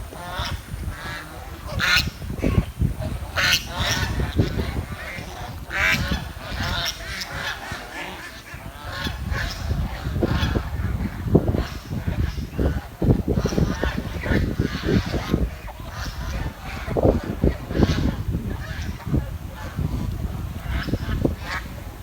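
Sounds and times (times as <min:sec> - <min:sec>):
swans honking: 0:00.0 - 0:22.0.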